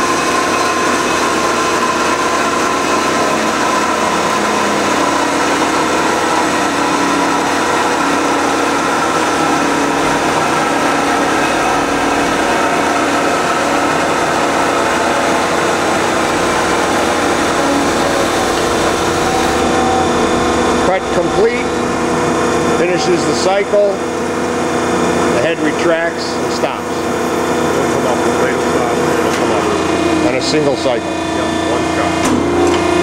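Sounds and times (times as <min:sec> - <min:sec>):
band saw cutting through tube: 0:00.0 - 0:32.2
machine whine: 0:00.0 - 0:33.0.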